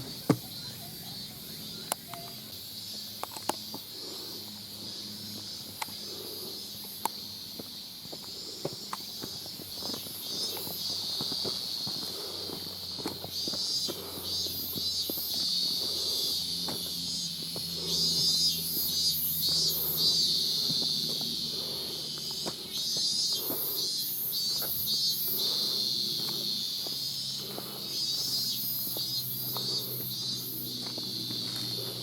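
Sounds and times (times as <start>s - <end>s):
cicadas shrilling: 0.0s - 32.0s
footsteps on trail: 0.0s - 32.0s.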